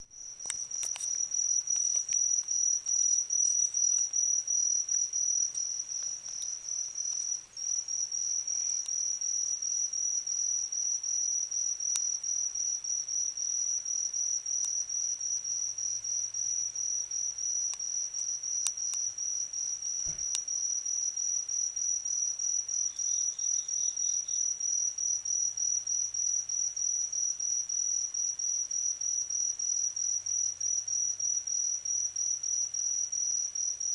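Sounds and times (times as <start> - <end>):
fainter lower insect trill: 0.0 - 33.9.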